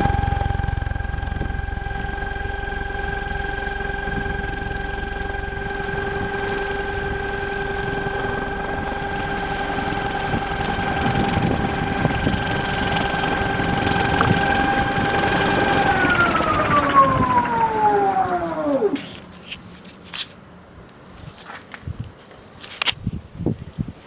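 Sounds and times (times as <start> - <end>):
electric motor whine: 0.0 - 19.3.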